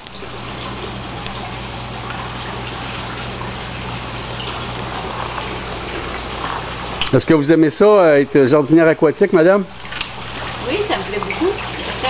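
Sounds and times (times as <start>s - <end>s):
low steady hum: 0.0s - 12.0s
running water: 0.0s - 12.0s.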